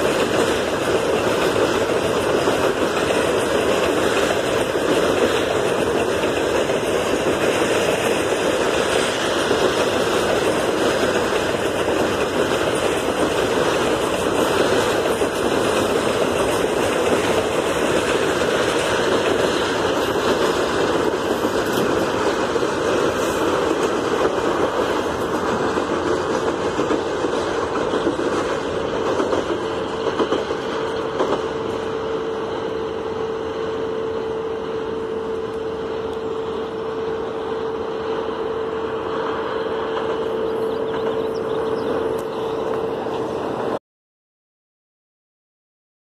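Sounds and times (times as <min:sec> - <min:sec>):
freight train rolling on rails: 0:00.0 - 0:43.8.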